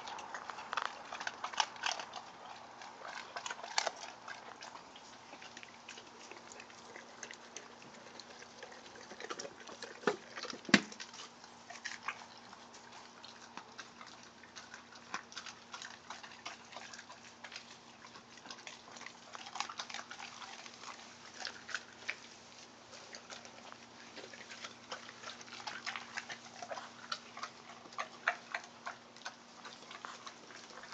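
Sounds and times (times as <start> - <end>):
dog chewing crunching bones: 0.0 - 30.9.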